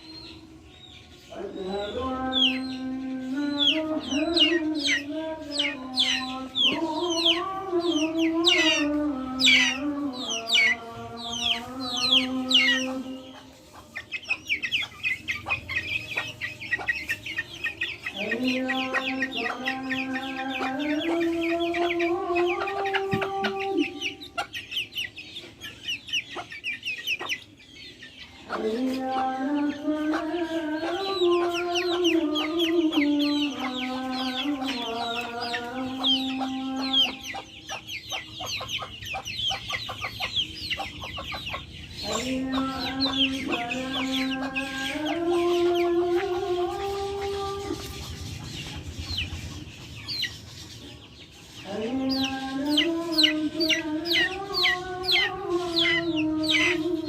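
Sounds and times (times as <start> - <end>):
chickens calling: 0.0 - 57.0
wild birds chirping: 0.0 - 57.0.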